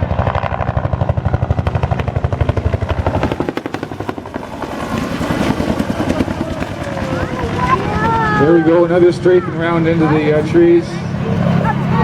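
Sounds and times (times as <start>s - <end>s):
helicopter rotor chopping: 0.0s - 12.0s
helicopter turbine whine: 0.0s - 12.0s.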